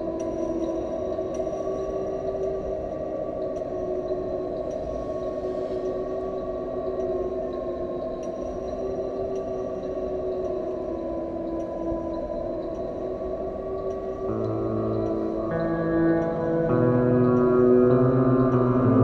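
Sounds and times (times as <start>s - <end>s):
faint scattered ticks: 0.0s - 19.0s
sustained drone tones: 0.0s - 19.0s.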